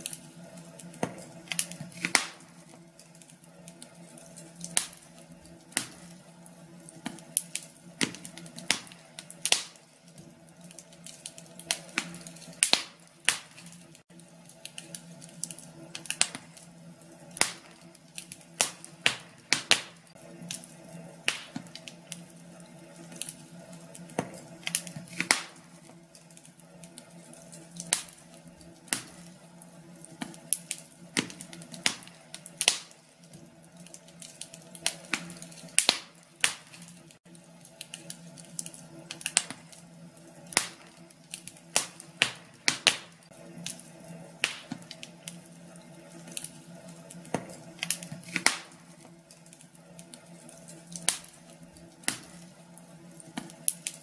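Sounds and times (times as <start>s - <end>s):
wood fire crackling in fireplace: 0.0s - 54.0s.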